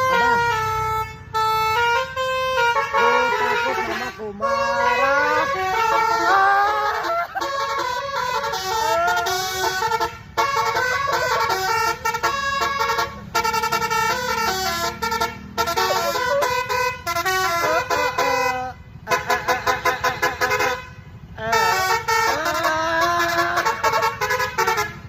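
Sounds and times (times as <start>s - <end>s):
multi-tone bus horn playing a tune: 0.0s - 25.0s.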